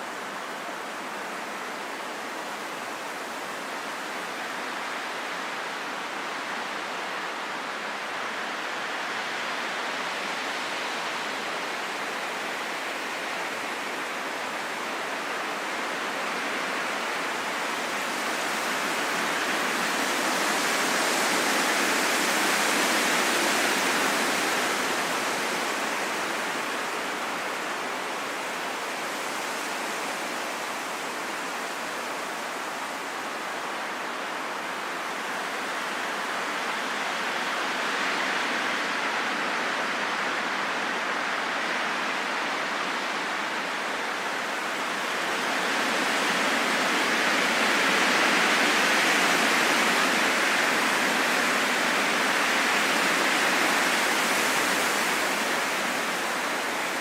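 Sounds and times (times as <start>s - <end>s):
rain pattering in a forest: 0.0s - 57.0s.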